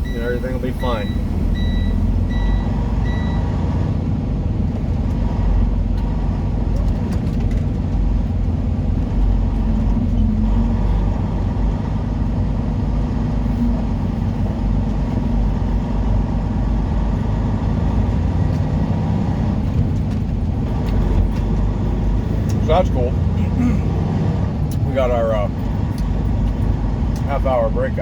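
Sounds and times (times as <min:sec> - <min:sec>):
road noise: 0:00.0 - 0:28.0
truck diesel engine running: 0:00.0 - 0:28.0.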